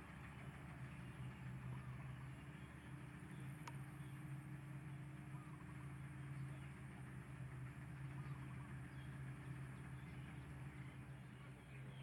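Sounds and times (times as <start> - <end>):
faint engine hum: 0.0 - 12.0.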